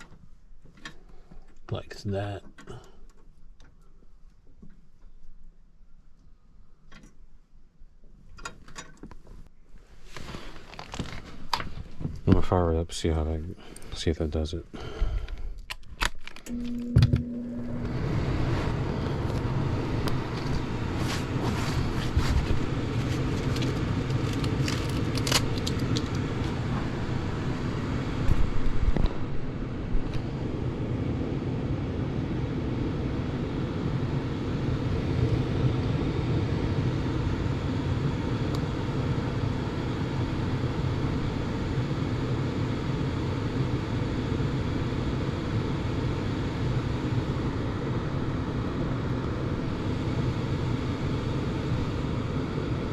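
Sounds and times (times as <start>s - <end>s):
gas furnace rumbling: 9.4s - 15.5s, 16.5s - 52.9s.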